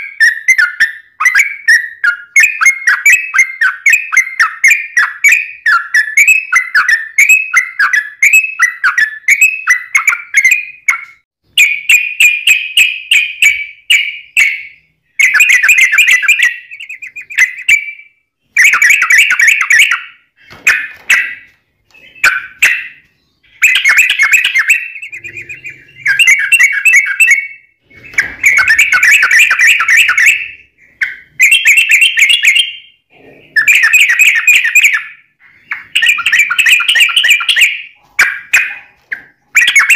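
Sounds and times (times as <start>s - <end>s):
bird singing bubbly warbled phrases: 0.0s - 39.9s.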